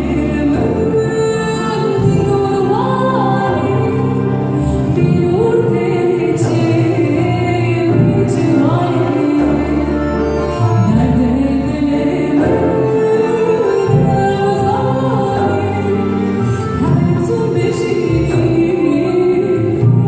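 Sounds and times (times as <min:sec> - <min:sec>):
orchestra playing: 0:00.0 - 0:20.0.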